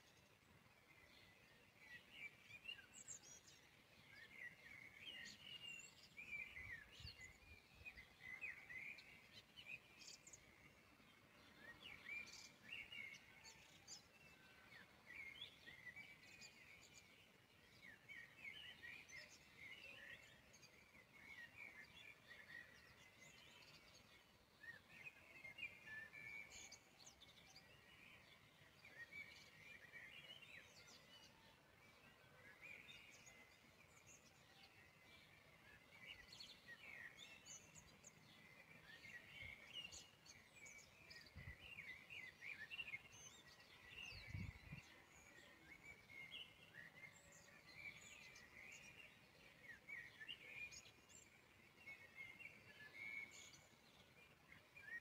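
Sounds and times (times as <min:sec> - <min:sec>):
faint bird chirps: 0:00.0 - 0:55.0.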